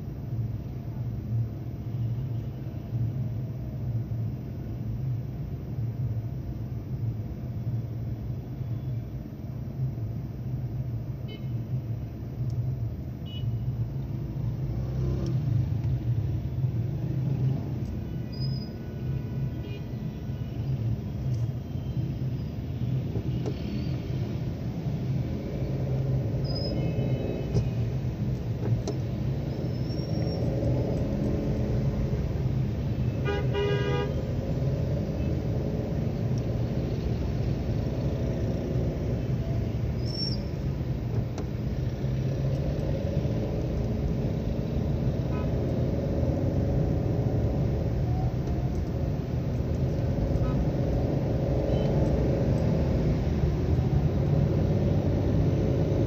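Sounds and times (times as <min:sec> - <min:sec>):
low rumble of vehicle engines: 0:00.0 - 0:56.0.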